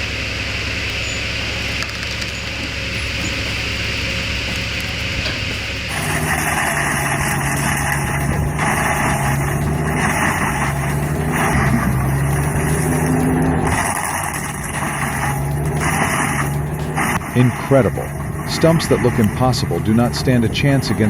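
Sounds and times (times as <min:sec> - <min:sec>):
heavy machine engine running: 0:01.4 - 0:21.0.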